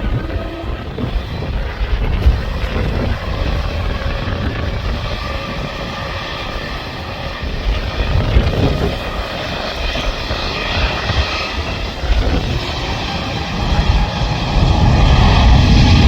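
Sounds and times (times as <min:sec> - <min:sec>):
jet engine noise with whine: 0:00.0 - 0:16.0.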